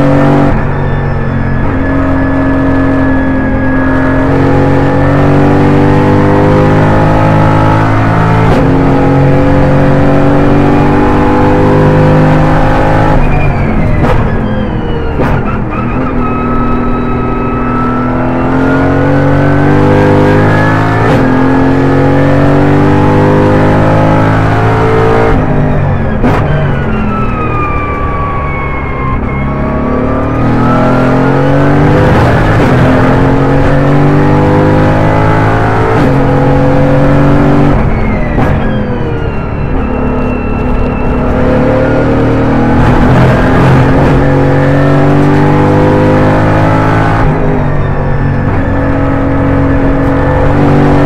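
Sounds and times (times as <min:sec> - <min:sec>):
race car engine revving: 0:00.0 - 0:14.6, 0:15.2 - 0:26.9, 0:28.6 - 0:51.0
high whine: 0:00.0 - 0:22.4, 0:23.2 - 0:51.0.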